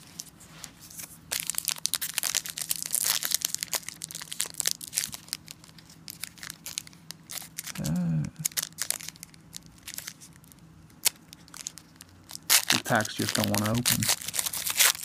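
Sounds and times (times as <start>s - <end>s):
foil wrapper crinkling: 0.9s - 15.0s.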